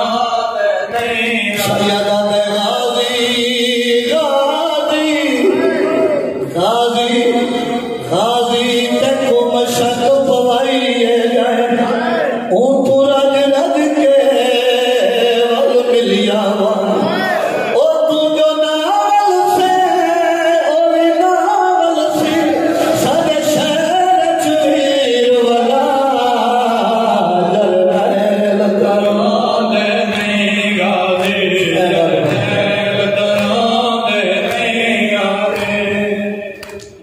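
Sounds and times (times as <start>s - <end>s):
lead reciter chanting: 0.0s - 37.0s
men chanting a lament: 0.0s - 37.0s.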